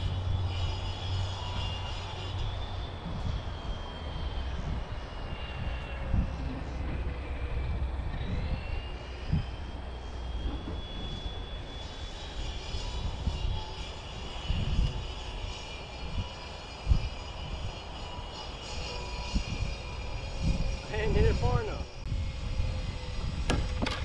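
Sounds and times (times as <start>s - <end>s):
high-pitched motor whine: 0.0s - 24.0s
wind buffeting microphone: 0.0s - 24.0s.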